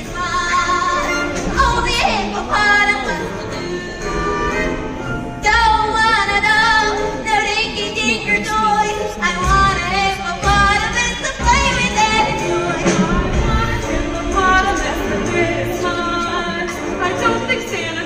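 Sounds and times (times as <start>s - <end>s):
choir singing: 0.0s - 18.0s
instrumental accompaniment: 0.0s - 18.0s.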